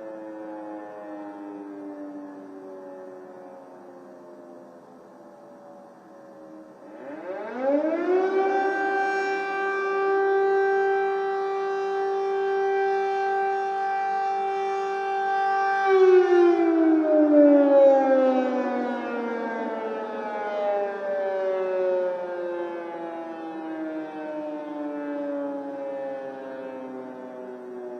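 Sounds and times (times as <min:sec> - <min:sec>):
air-raid siren wailing: 0:00.0 - 0:27.9.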